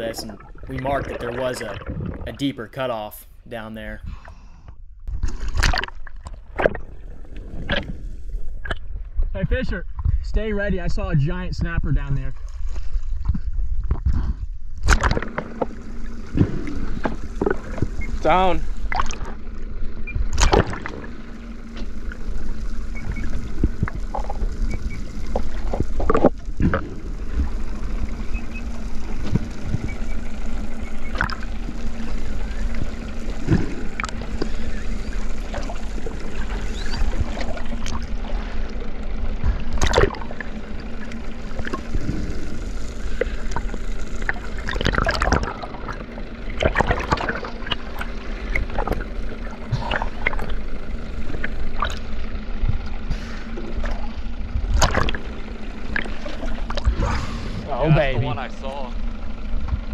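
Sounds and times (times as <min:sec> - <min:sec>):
water sloshing around boat: 0:00.0 - 0:02.9, 0:12.1 - 0:59.9
faint low hum: 0:00.0 - 0:59.9.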